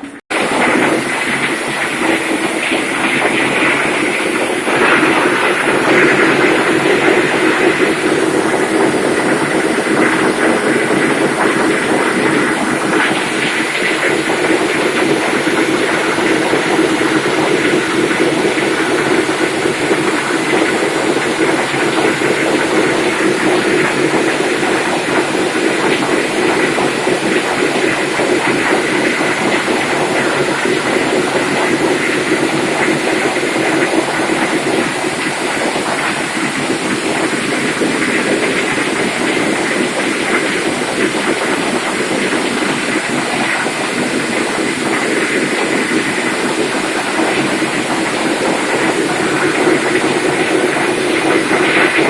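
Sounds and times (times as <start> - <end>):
engine room machinery din: 0.0 - 52.0
high machinery whine: 0.0 - 52.0.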